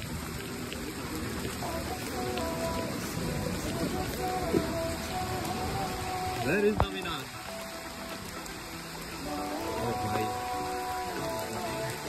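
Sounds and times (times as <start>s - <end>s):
rain on pavement: 0.0s - 12.0s
background music: 1.6s - 12.0s.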